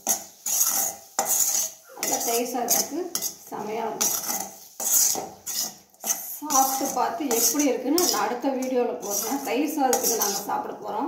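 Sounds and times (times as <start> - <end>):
metal spoon scraping pan: 0.0 - 10.7.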